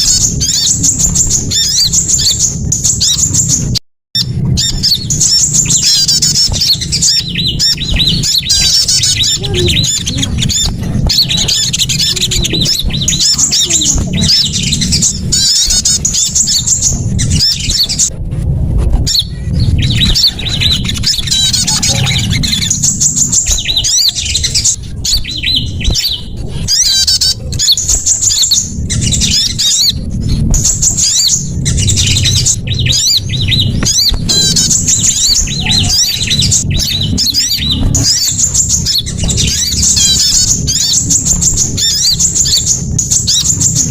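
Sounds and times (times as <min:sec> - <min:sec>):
songbirds chirping and trilling: 0:00.0 - 0:43.9
steady low rumble: 0:00.0 - 0:43.9.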